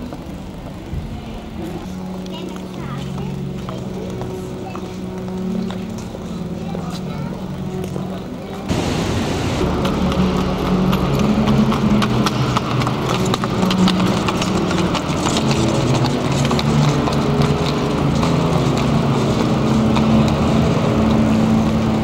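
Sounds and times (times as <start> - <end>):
bowed double basses: 0.0 - 22.0
horse hooves clip-clopping on paving: 0.0 - 22.0.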